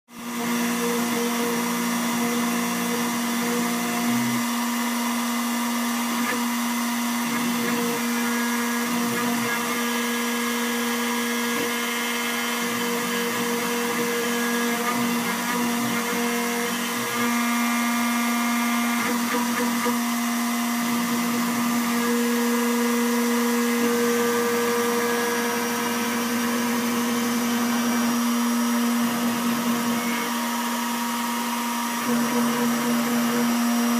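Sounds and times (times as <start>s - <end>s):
cnc router spindle whine: 0.1s - 33.9s.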